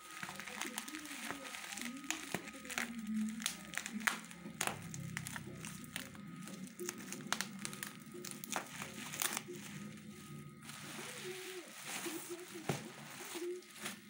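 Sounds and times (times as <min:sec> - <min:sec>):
bubble wrap and tape crackling: 0:00.0 - 0:14.0.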